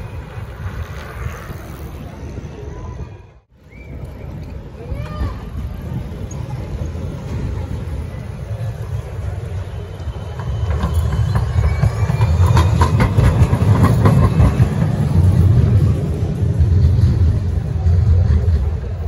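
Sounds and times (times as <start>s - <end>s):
tram rumbling: 0.0s - 19.0s
wheels clicking over rails: 3.7s - 19.0s.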